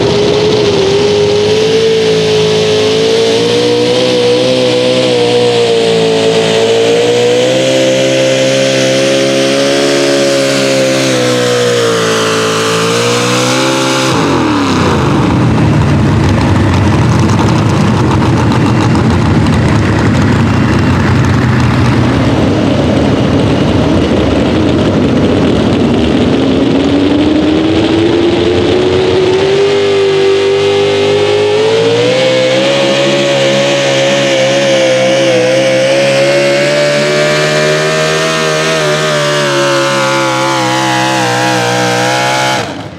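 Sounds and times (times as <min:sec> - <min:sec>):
truck engine at high revs: 0:00.0 - 0:42.9.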